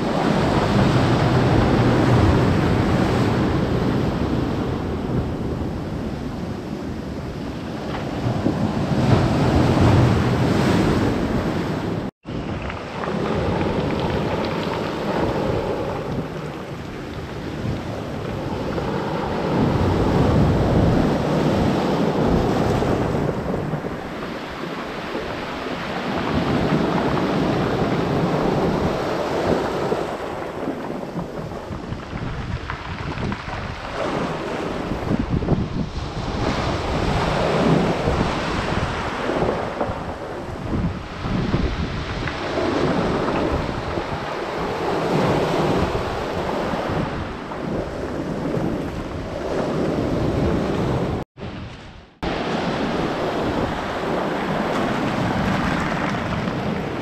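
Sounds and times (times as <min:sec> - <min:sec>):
surf washing up pebble beach: 0:00.0 - 0:57.0
wind buffeting microphone: 0:00.0 - 0:57.0.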